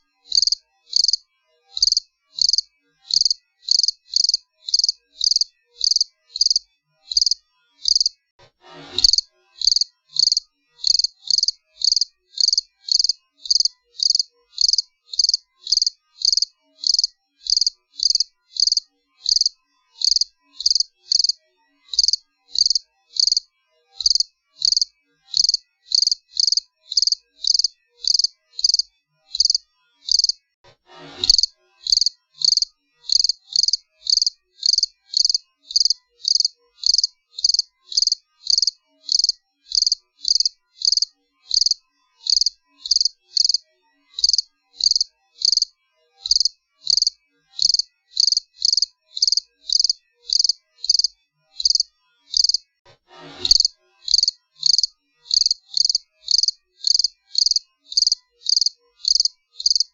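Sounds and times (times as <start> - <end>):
cricket chirping: 0.3 - 1.2, 1.8 - 8.2, 9.0 - 23.4, 24.0 - 30.4, 31.3 - 43.6, 44.2 - 52.6, 53.5 - 59.9.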